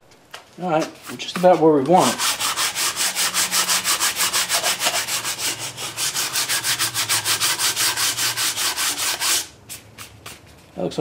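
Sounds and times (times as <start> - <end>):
sandpaper scrubbing on metal: 0.8 - 9.9.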